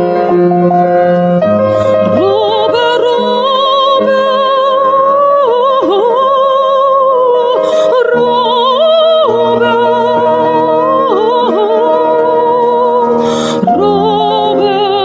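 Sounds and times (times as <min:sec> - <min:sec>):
low musical accompaniment: 0:00.0 - 0:15.0
woman singing with vibrato: 0:01.9 - 0:15.0.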